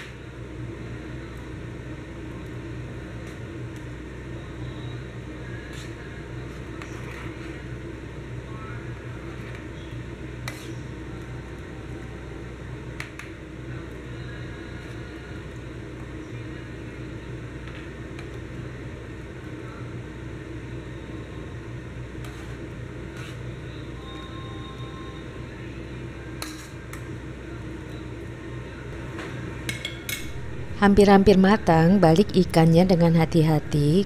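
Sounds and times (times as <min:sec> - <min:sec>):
pot simmering on a stove: 0:00.0 - 0:30.2.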